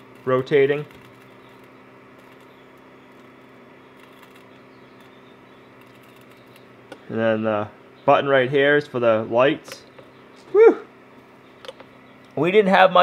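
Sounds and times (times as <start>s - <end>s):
faint electric hum: 0.0s - 13.0s.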